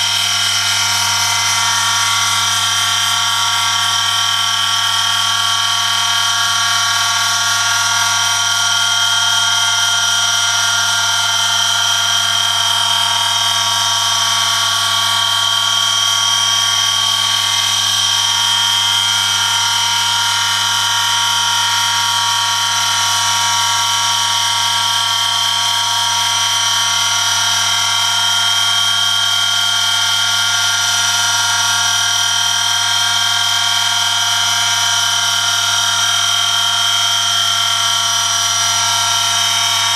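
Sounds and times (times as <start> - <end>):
high-pitched metal rubbing whine: 0.0 - 39.9.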